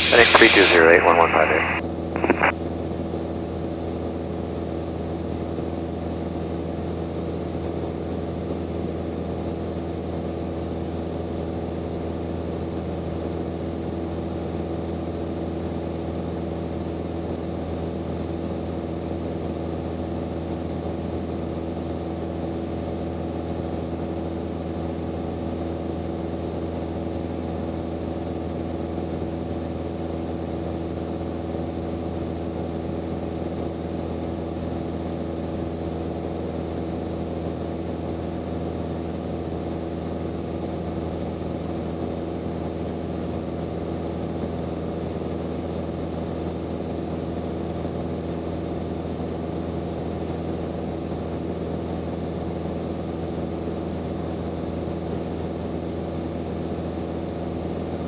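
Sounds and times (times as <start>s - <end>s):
airplane engine and propeller drone: 0.0s - 58.0s.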